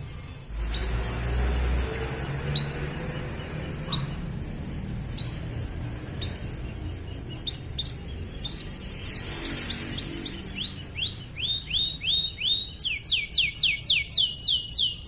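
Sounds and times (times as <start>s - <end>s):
canary chirps: 0.0s - 15.0s.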